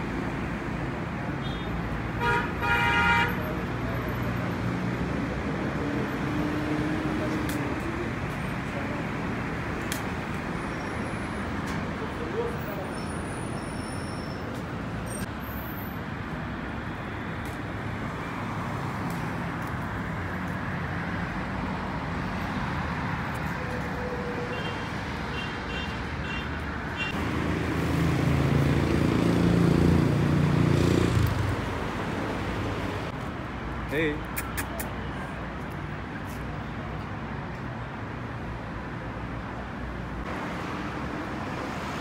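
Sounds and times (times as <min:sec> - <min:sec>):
hum of passing cars: 0:00.0 - 0:42.0.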